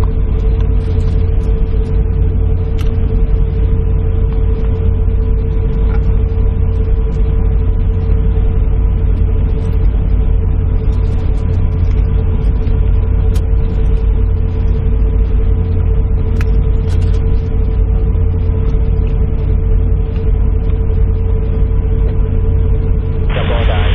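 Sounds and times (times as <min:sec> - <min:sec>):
airliner cabin rumble: 0:00.0 - 0:23.9.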